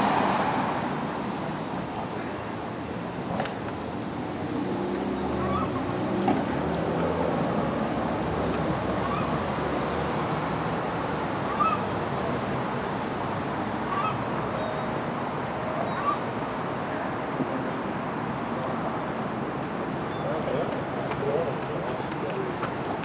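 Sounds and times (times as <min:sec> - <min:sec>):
traffic hum: 0:00.0 - 0:23.0.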